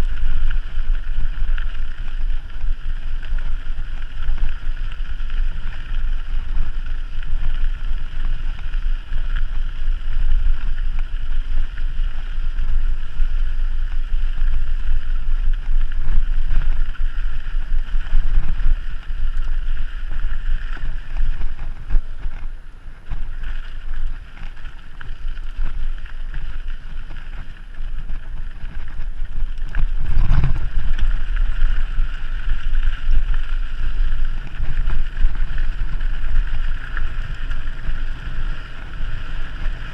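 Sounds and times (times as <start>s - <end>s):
bike tyre noise on dirt: 0.0s - 39.9s
wind rumble on microphone: 0.0s - 39.9s.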